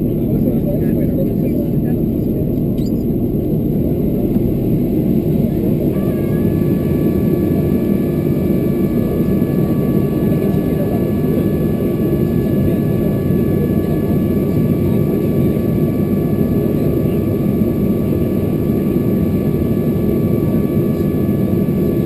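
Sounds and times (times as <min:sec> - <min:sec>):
high steady whining tones: 0:00.0 - 0:22.0
jet engine drone in cabin: 0:00.0 - 0:22.0.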